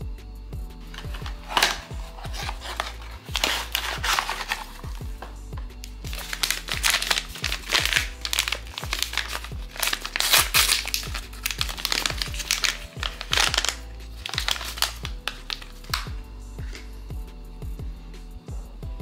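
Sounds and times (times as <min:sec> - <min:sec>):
background music with beat: 0:00.0 - 0:19.0
paper and plastic crinkling: 0:00.9 - 0:16.9.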